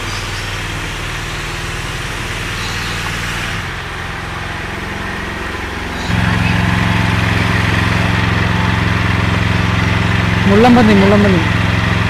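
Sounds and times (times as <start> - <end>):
motor humming with hiss: 0.0 - 12.0.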